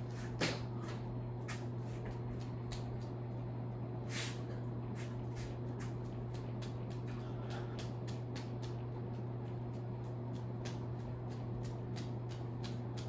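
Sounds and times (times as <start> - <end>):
ceiling fan hum: 0.0 - 13.0.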